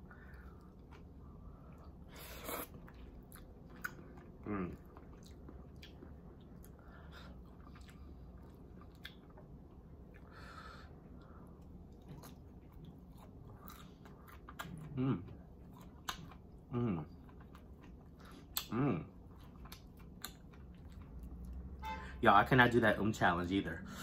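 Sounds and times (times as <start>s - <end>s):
chewing and biting food: 0.2s - 10.4s, 11.6s - 21.8s.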